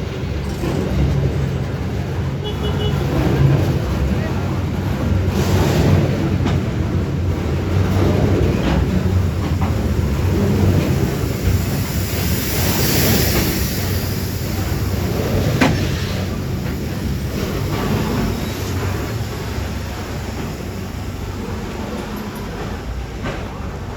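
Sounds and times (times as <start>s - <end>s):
rail clicks and clacks: 0.0s - 23.9s
train wheels rumbling on rail: 0.0s - 23.9s.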